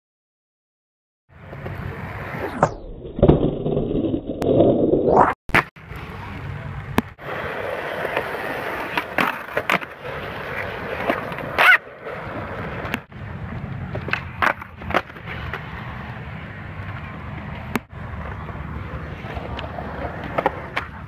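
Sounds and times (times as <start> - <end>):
skateboard wheels rolling on concrete: 1.3 - 21.0.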